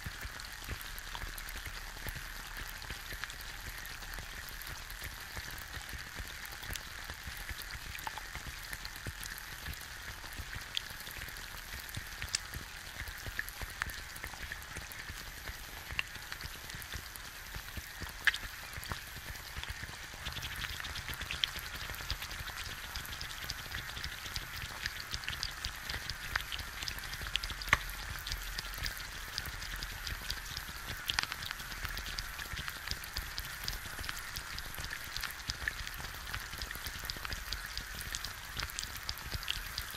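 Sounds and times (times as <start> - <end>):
egg sizzling in a pan: 0.0 - 39.9
sharp pops and crackles: 0.0 - 39.9.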